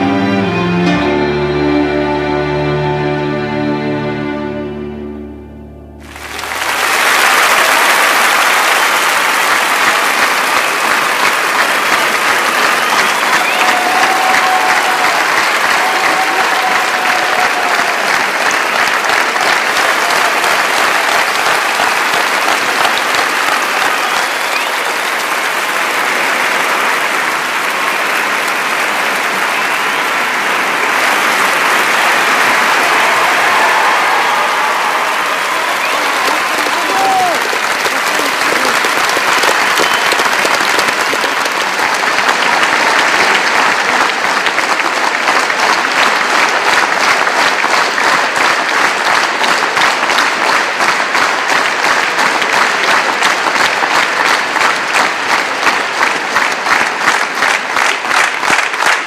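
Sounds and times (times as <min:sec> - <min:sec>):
audience applauding: 0:06.0 - 0:59.0.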